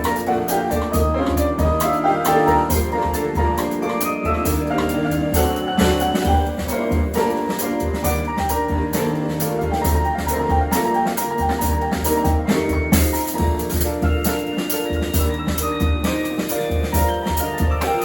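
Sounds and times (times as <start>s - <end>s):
drum kit groove: 0.0s - 18.0s
piano and keyboard lines: 0.0s - 18.0s.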